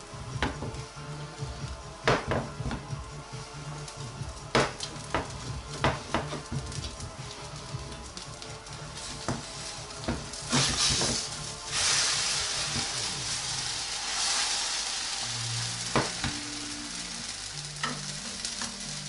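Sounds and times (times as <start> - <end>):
batter sizzling in frying pan: 0.0 - 19.0.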